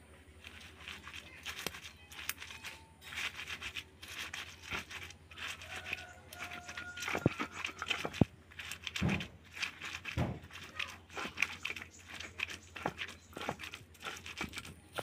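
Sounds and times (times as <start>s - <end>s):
stone pestle grinding in mortar: 0.4s - 15.0s.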